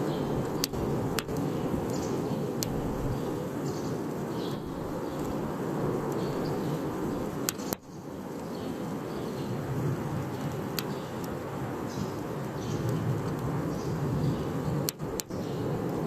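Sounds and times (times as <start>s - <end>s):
campfire flames rumbling: 0.0s - 16.0s.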